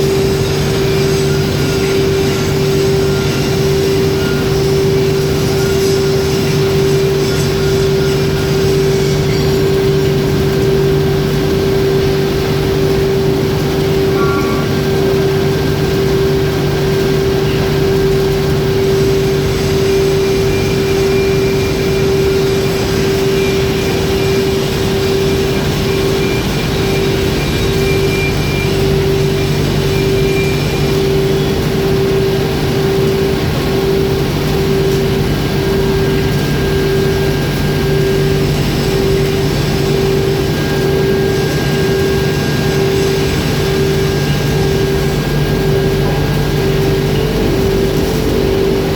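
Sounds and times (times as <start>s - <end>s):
foundry machinery hum: 0.0s - 48.9s
pulsing machine tone: 0.0s - 48.9s.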